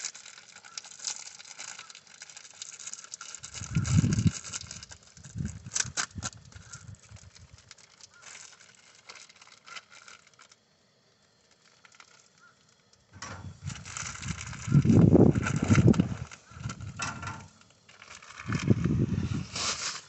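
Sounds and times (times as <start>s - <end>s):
plastic package crinkling and tearing: 0.0s - 20.0s.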